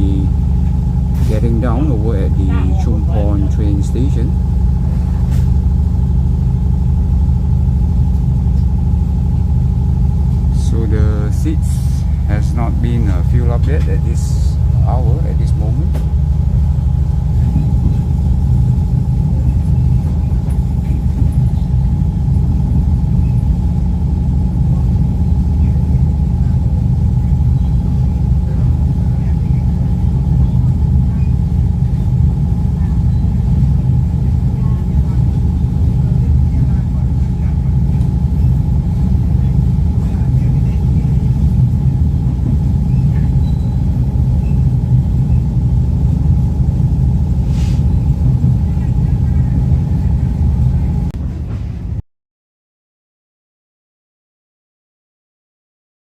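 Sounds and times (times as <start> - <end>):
faint steady hum: 0.0 - 52.0
train rumbling inside carriage: 0.0 - 52.0.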